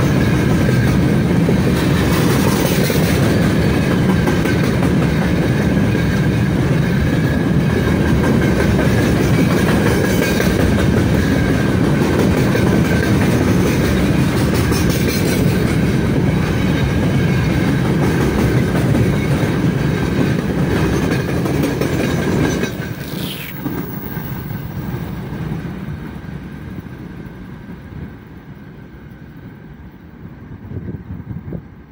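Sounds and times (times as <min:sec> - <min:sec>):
freight train wheels clattering on rails: 0:00.0 - 0:31.7.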